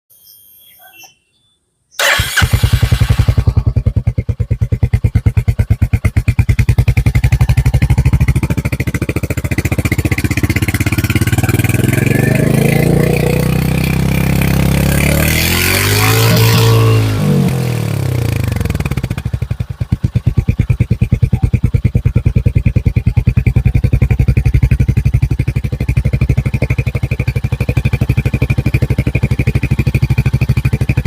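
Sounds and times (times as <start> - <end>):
motorcycle engine idling and revving: 2.0 - 31.0.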